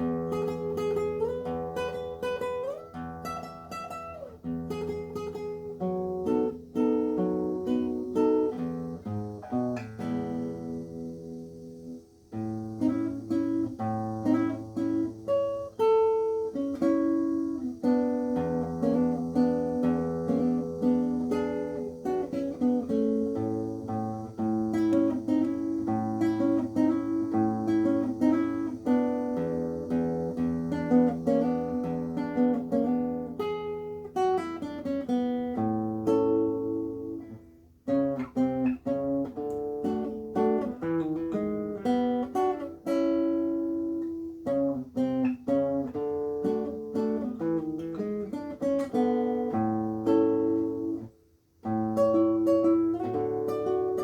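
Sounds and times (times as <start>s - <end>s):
fingerpicked acoustic guitar: 0.0s - 54.0s.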